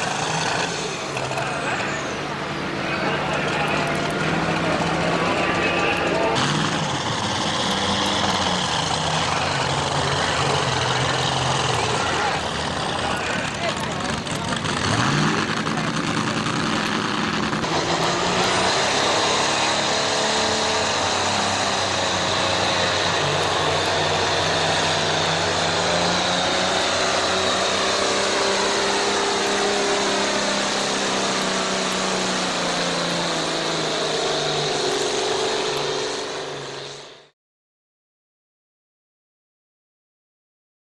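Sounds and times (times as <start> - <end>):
diesel engine running under load: 0.0 - 37.4.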